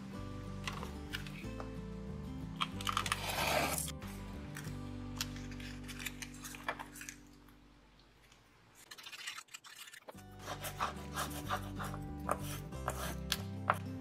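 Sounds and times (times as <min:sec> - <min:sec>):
background music: 0:00.0 - 0:07.8, 0:10.2 - 0:14.0.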